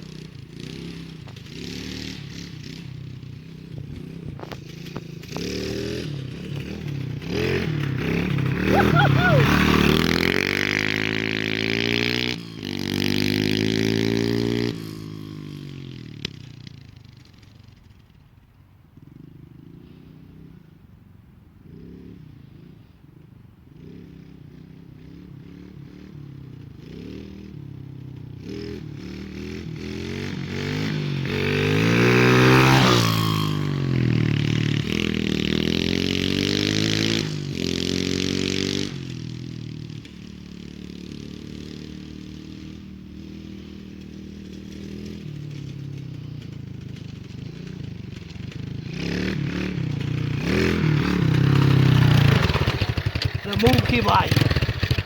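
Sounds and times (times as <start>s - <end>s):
small motorcycle engine revving: 0.0s - 17.9s, 23.7s - 55.0s.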